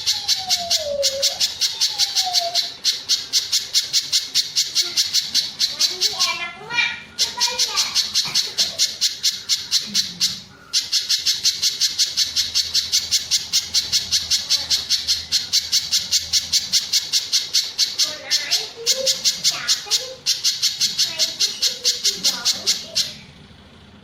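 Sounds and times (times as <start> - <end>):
bird calling sharp high notes: 0.0 - 23.4.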